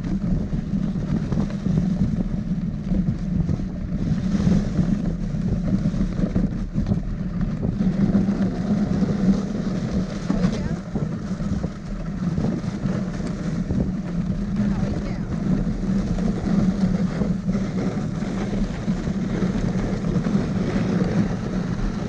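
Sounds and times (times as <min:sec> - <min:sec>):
dog sled running over snow: 0:00.0 - 0:22.0
wind on microphone: 0:00.0 - 0:22.0.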